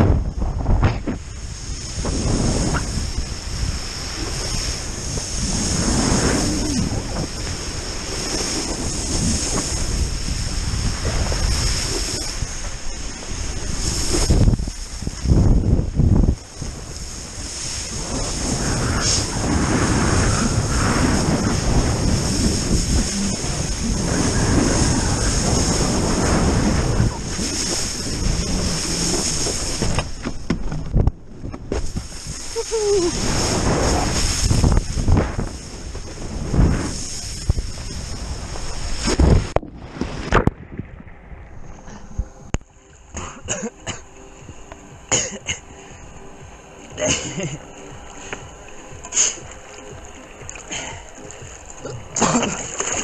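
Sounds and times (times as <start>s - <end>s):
wakeboard cutting through water: 0.0s - 53.0s
wind buffeting microphone: 0.0s - 53.0s.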